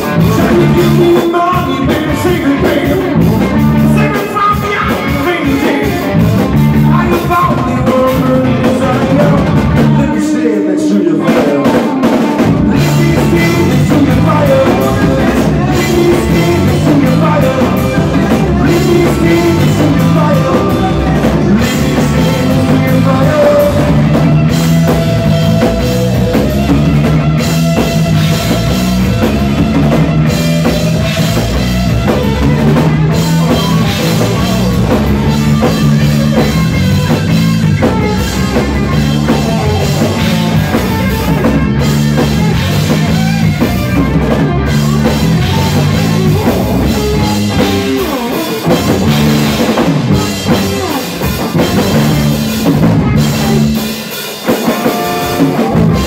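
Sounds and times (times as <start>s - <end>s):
man singing lead vocal: 0.0s - 27.1s, 27.8s - 56.0s
bass guitar: 0.0s - 56.0s
drum kit: 0.0s - 56.0s
electric guitar: 0.0s - 56.0s.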